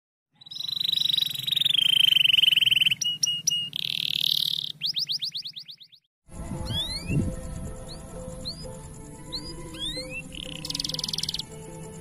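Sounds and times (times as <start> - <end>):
canary singing: 0.3 - 12.0.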